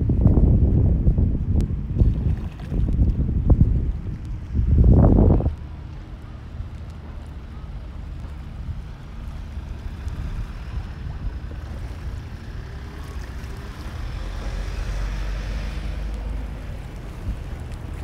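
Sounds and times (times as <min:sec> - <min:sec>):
outdoor ambient noise: 0:00.0 - 0:18.0
wind buffeting microphone: 0:00.0 - 0:18.0.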